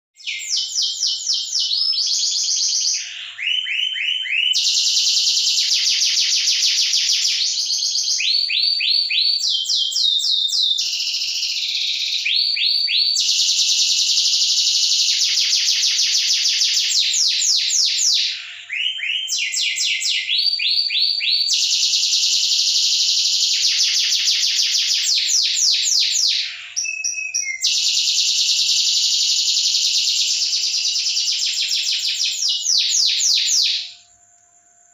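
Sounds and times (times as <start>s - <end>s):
canary singing trills: 0.2s - 34.0s.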